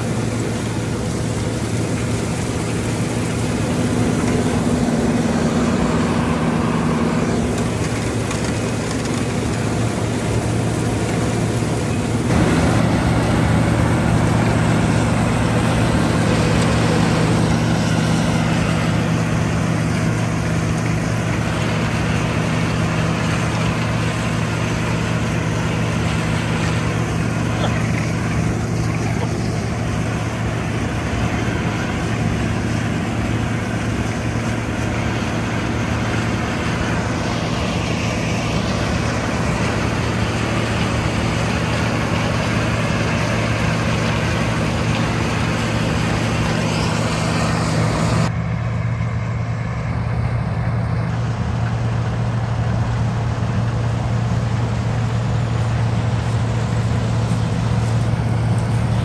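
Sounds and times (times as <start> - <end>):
diesel engine hum: 0.0 - 59.0
threshing machinery noise: 0.0 - 59.0.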